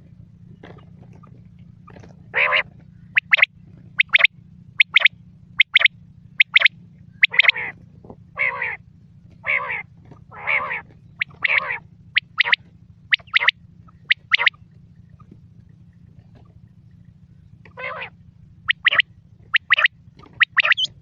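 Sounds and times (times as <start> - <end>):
steady low hum: 0.0 - 21.0
quail calling: 0.6 - 15.4, 17.6 - 21.0.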